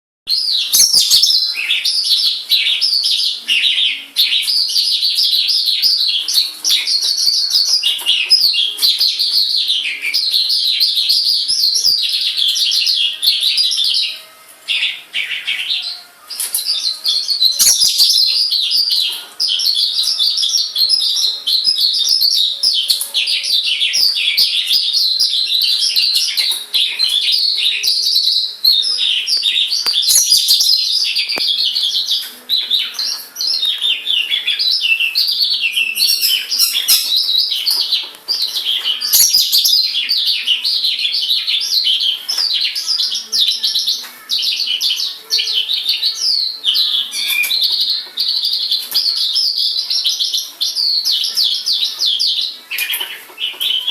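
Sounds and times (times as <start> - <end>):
bird chirping and trilling: 0.3 - 53.9.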